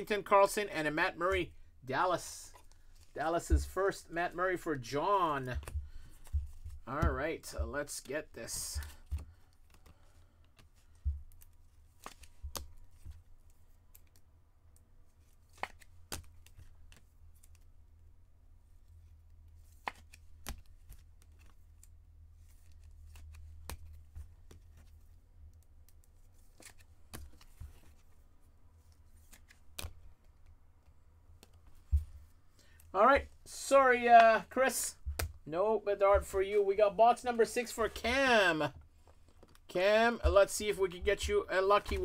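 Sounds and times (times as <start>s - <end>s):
cards and packaging handled: 0.0s - 42.0s.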